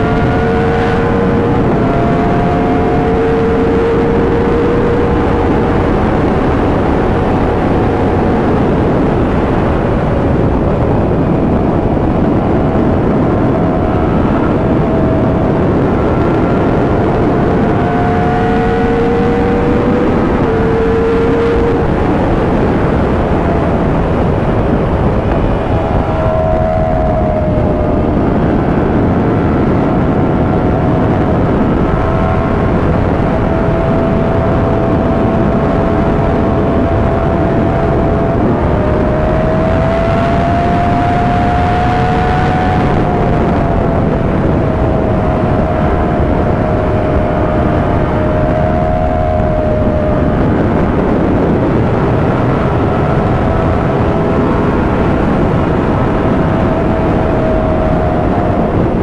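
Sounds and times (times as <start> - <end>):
motorcycle engine: 0.0 - 59.0
wind rush over microphone: 0.0 - 59.0.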